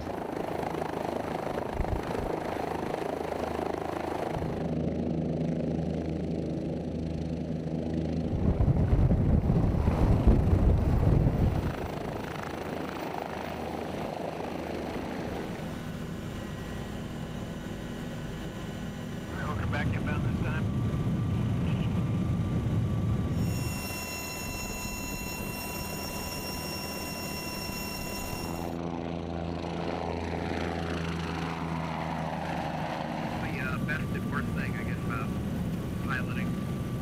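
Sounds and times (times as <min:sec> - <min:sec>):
helicopter turbine and rotor: 0:00.0 - 0:37.0.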